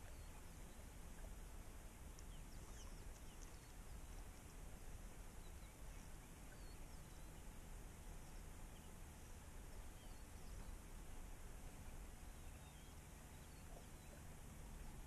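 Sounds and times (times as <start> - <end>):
distant birds chirping: 0.0 - 15.0
low rumble and hiss: 0.0 - 15.0.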